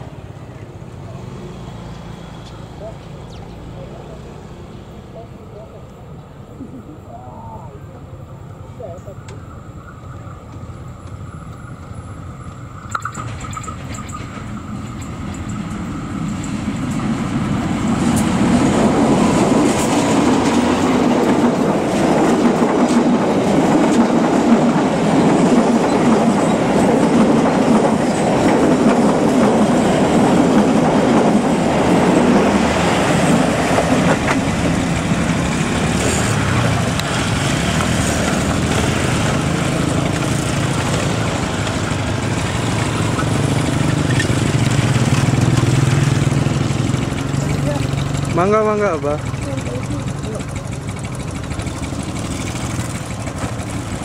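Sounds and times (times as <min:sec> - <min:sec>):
train wheels clattering on rails: 0:10.0 - 0:54.0.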